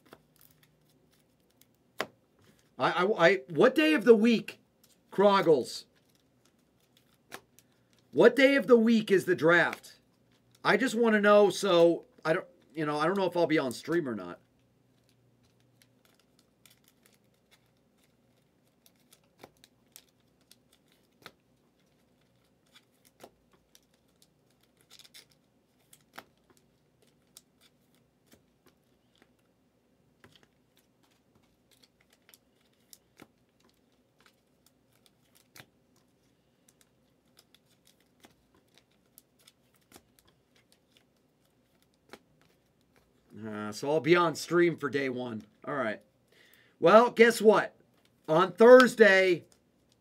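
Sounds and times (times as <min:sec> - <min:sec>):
quiet room hum: 0:00.0 - 0:50.0.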